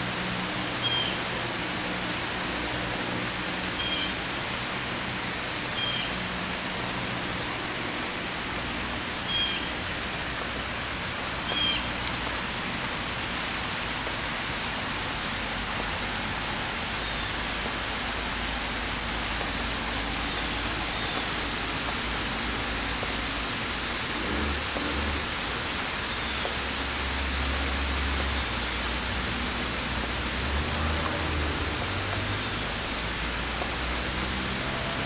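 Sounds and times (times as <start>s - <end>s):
rain hissing: 0.0s - 35.0s.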